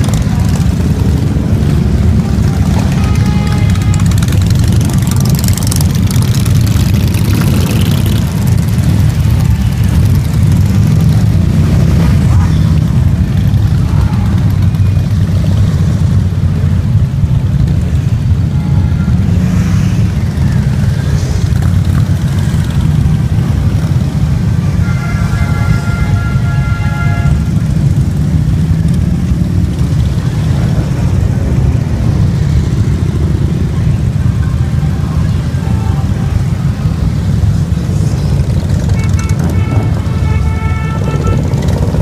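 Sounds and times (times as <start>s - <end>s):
motorcycles riding slowly past: 0.0s - 42.0s.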